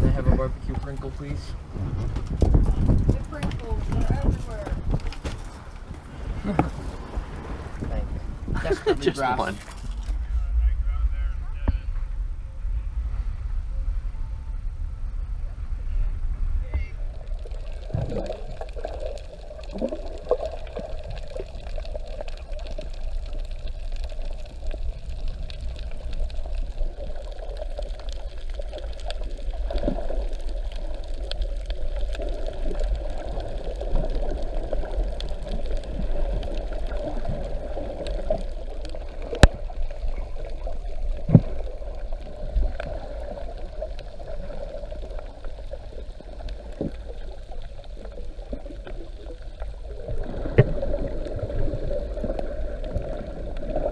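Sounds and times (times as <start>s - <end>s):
low rumble: 0.0s - 53.9s.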